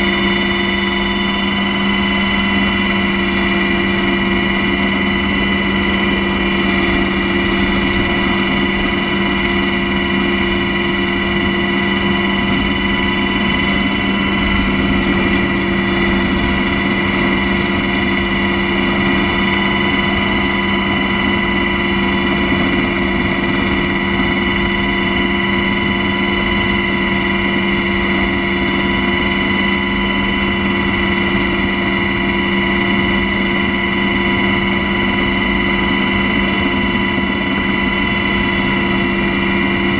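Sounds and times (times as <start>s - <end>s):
aircraft turbine engine whine: 0.0s - 39.9s.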